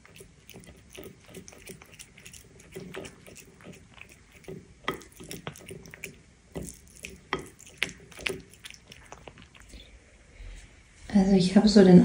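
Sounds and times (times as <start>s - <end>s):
cat chewing wet food: 0.0s - 9.9s.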